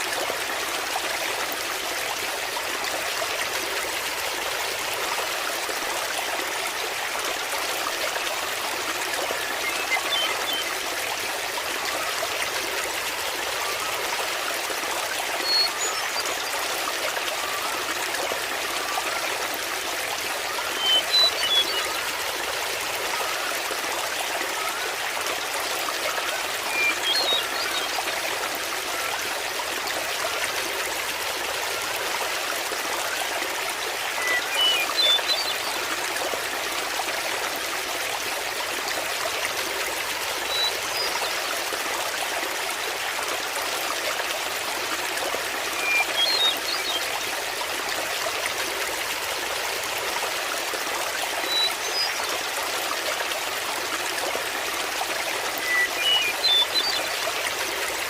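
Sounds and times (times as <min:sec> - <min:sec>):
waterfall water running: 0:00.0 - 0:58.0.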